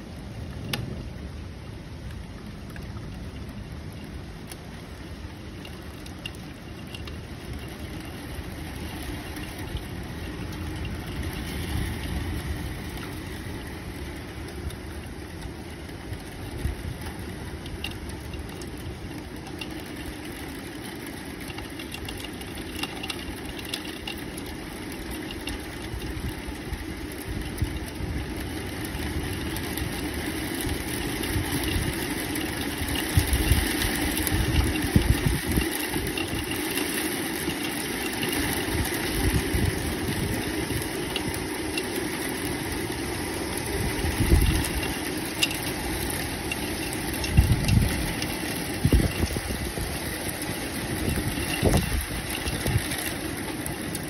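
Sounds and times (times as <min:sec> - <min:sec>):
rain rushing: 0:00.0 - 0:54.0.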